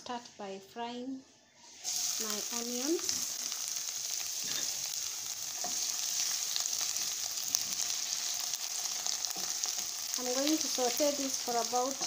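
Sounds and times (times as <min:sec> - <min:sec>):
onions sizzling in hot oil: 0:01.7 - 0:12.0.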